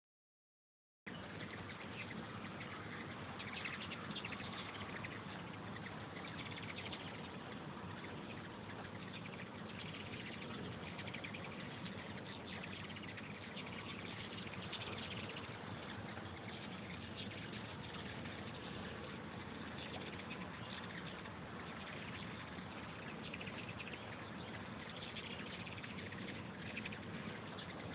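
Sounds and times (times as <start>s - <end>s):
high chittering bird calls: 1.1s - 27.9s
hummingbird wings buzzing: 1.4s - 27.9s.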